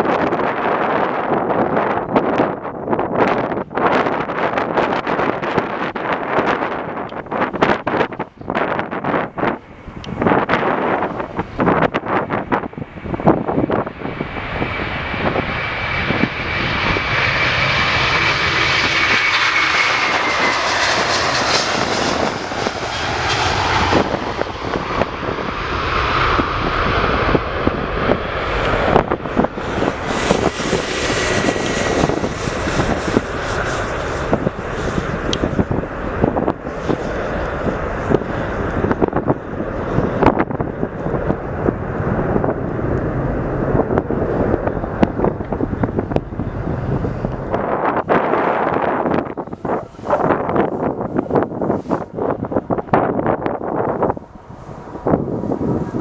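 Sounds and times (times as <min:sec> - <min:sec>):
jet engines passing: 0:00.0 - 0:56.0
wind buffeting microphone: 0:00.0 - 0:56.0.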